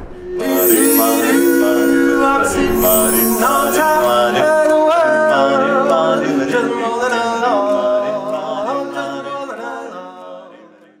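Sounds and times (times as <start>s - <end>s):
men singing a cappella harmony: 0.4s - 11.0s.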